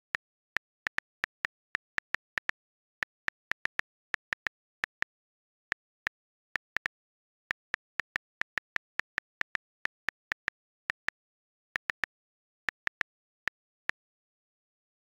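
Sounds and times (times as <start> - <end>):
on-screen keyboard clicks: 0.0 - 14.1.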